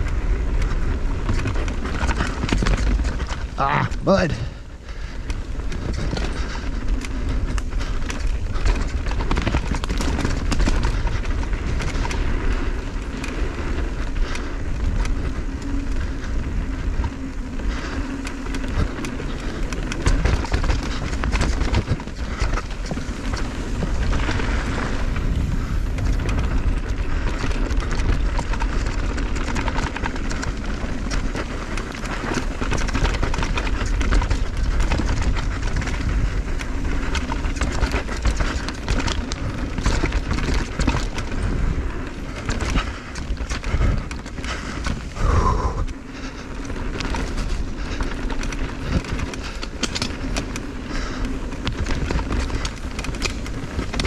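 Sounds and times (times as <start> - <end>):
bike frame and chain clattering: 0.0 - 54.0
tyres running over dirt: 0.0 - 54.0
wind on microphone: 0.0 - 54.0.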